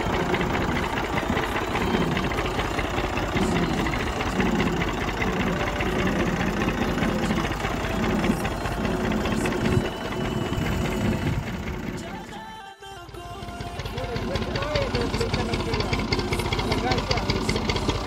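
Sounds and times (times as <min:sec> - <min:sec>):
tractor diesel engine chugging: 0:00.0 - 0:18.0.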